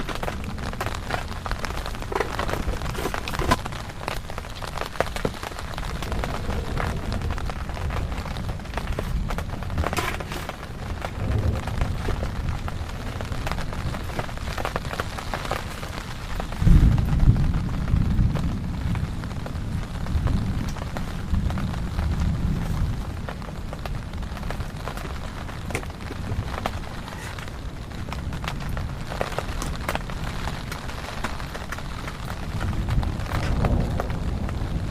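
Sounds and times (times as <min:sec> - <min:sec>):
heavy rain falling: 0:00.0 - 0:34.9
low rumble of thunder: 0:00.0 - 0:34.9.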